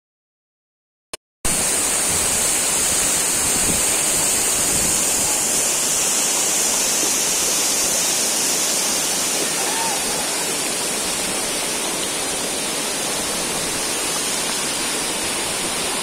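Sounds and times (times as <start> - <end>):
waterfall rushing: 1.5 - 16.0.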